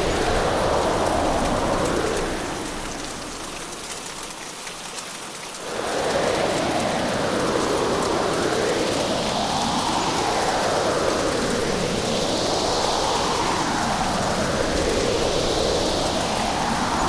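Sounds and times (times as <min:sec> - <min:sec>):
low rush of storm: 0:00.0 - 0:04.2, 0:05.6 - 0:17.0
heavy rain pouring: 0:00.0 - 0:17.0.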